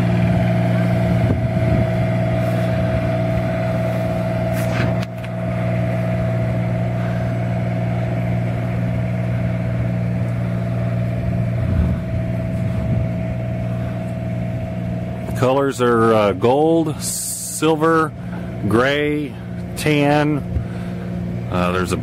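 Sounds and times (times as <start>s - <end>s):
motorhome engine droning: 0.0s - 22.0s.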